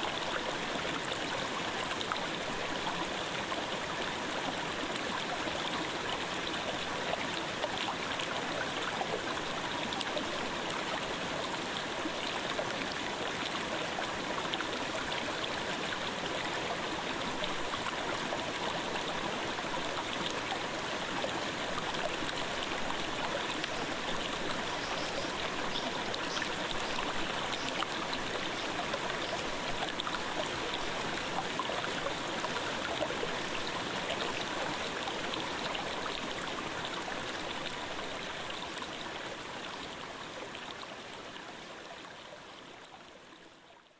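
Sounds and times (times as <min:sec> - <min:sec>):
stream babbling: 0:00.0 - 0:43.8.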